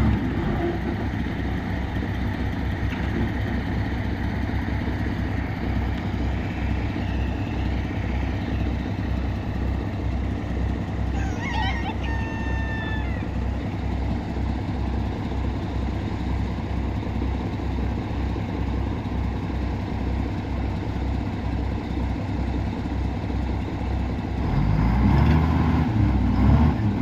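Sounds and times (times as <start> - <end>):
diesel engine idling and revving: 0.0 - 27.0.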